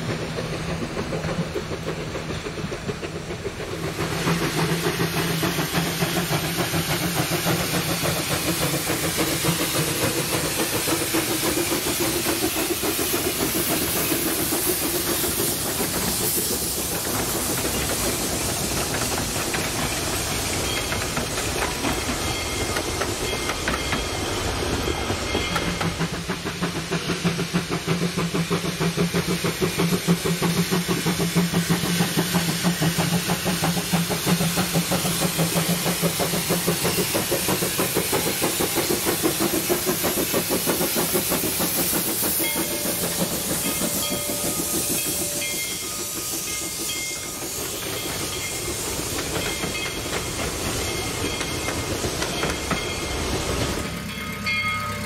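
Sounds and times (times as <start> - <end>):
steam hissing: 0.0 - 55.0
wheels clacking over rail joints: 0.0 - 55.0.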